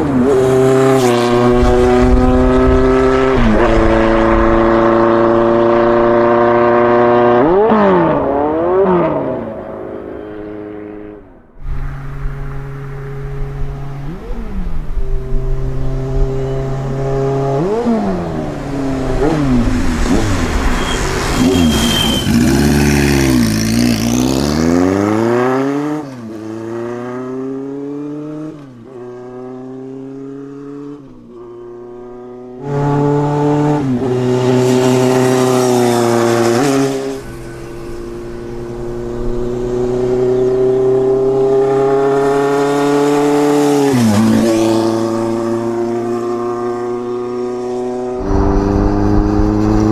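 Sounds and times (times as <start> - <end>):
motorcycle engines revving: 0.0 - 49.9
motorcycles passing by: 0.0 - 49.9.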